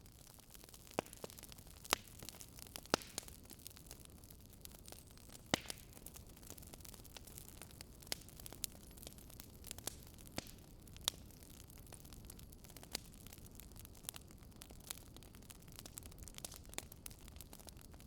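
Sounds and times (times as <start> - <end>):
campfire logs crackling: 0.0 - 18.0.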